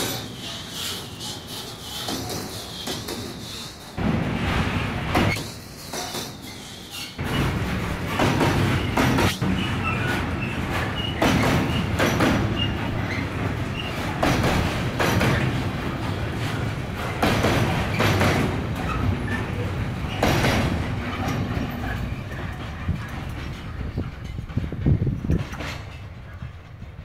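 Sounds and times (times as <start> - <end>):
train rumble: 0.0 - 27.0
train wheels clattering over joints: 0.0 - 27.0.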